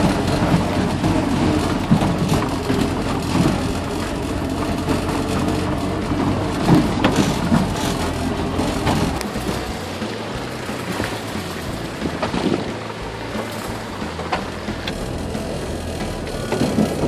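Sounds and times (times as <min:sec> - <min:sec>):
vehicle engine running: 0:00.0 - 0:17.0
vehicle knocks and rattles: 0:00.0 - 0:17.0.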